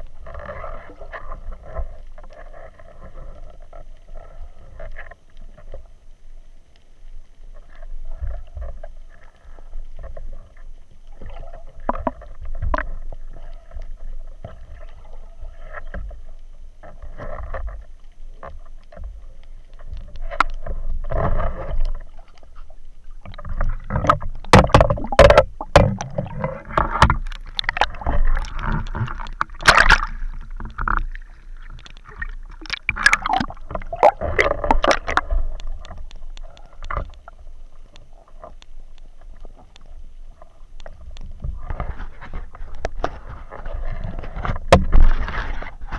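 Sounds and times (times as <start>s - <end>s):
water sloshing and splashing: 7.0s - 45.9s.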